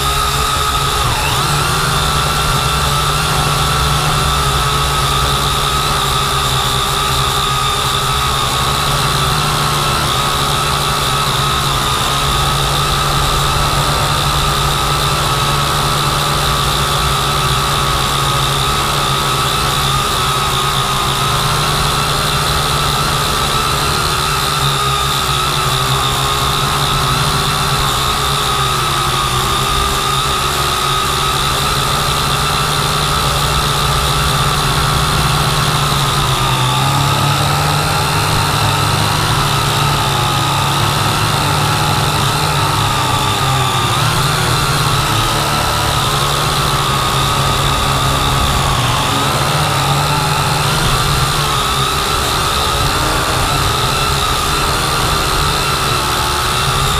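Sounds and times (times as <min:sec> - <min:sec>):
drone propellers whining: 0:00.0 - 0:56.9.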